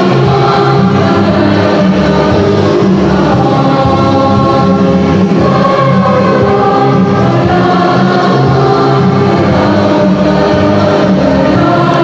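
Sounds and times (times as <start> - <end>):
choir singing a march: 0.0 - 12.0.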